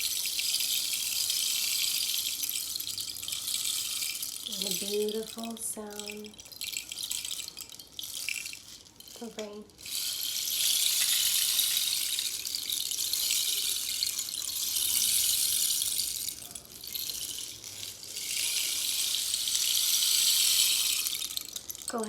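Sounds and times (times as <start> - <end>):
rain stick trickling: 0.0 - 22.0.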